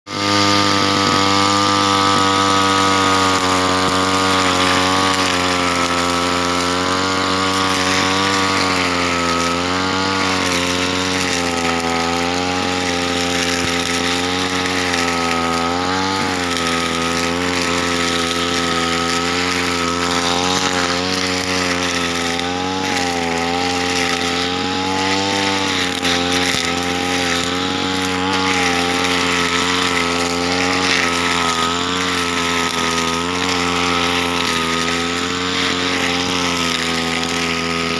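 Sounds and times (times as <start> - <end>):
brush cutter cutting grass: 0.0 - 37.9.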